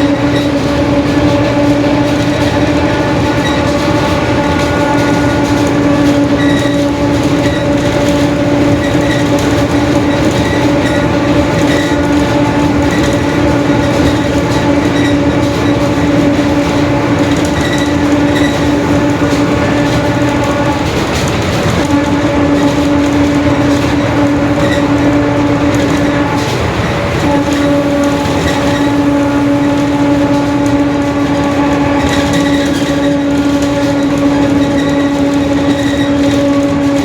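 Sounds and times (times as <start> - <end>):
bus engine and road rumble: 0.0 - 37.0
differential whine: 0.0 - 37.0.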